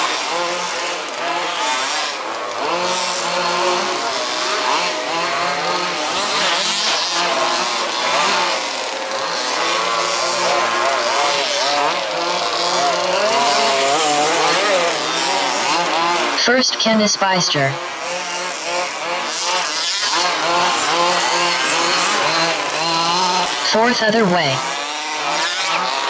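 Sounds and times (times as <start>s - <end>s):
rc buggy engines revving: 0.0s - 16.9s, 17.7s - 26.0s.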